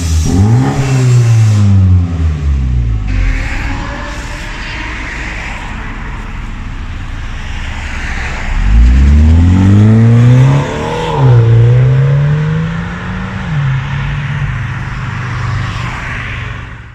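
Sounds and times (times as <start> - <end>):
car engine accelerating hard: 0.0 - 16.1.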